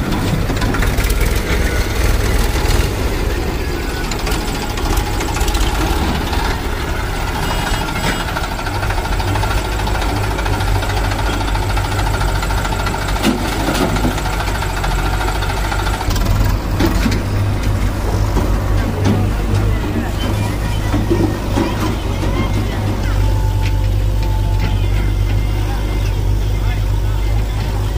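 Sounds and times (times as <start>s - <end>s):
diesel engines chugging: 0.0s - 27.9s.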